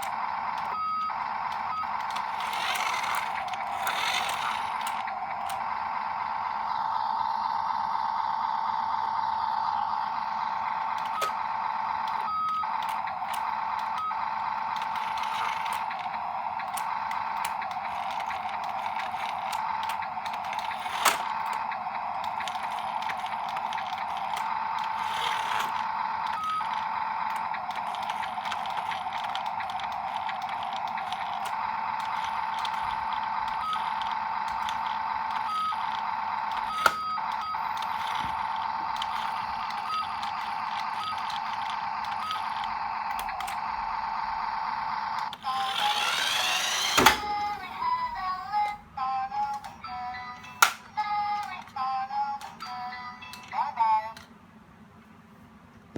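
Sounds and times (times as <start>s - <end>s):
electric motors whining: 0.0s - 54.2s.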